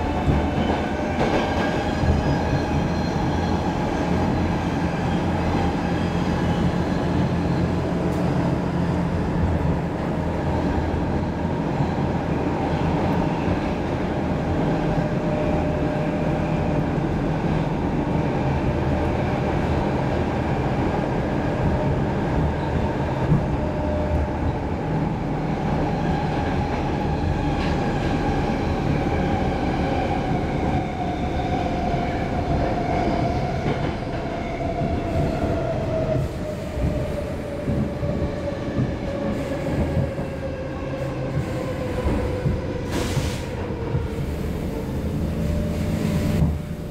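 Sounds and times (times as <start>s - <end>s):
subway car whine: 0.0s - 46.9s
subway wheels rumbling on track: 0.0s - 46.9s.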